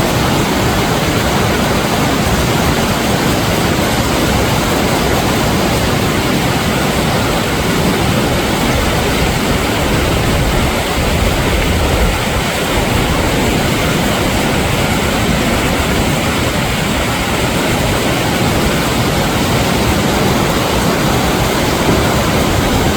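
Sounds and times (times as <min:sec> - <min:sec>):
stream rushing: 0:00.0 - 0:22.9.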